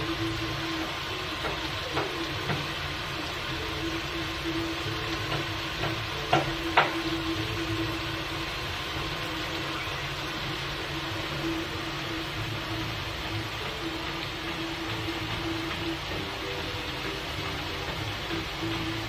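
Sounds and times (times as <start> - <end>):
prawns sizzling in hot oil: 0.0 - 19.0.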